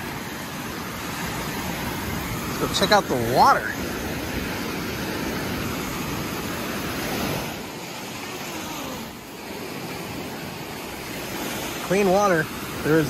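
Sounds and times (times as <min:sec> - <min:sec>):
surf washing up on beach: 0:00.0 - 0:13.0.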